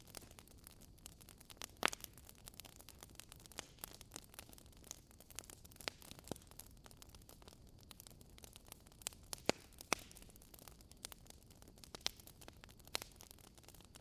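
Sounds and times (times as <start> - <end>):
sharp pops from fire: 0.0 - 14.0
wood fire crackling: 0.0 - 14.0.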